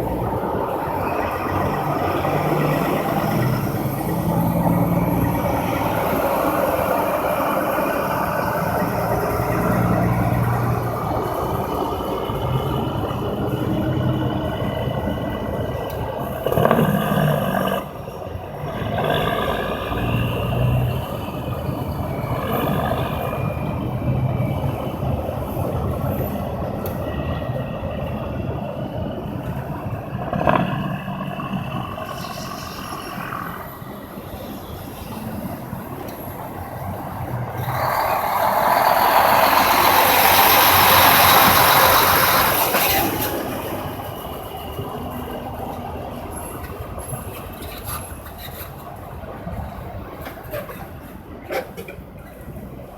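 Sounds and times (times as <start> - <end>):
heavy trucks passing: 0.0 - 52.9.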